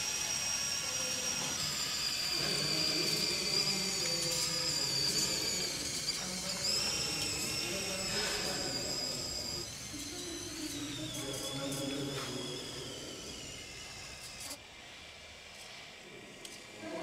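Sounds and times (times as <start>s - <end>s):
small electric motor whining: 0.0s - 17.0s.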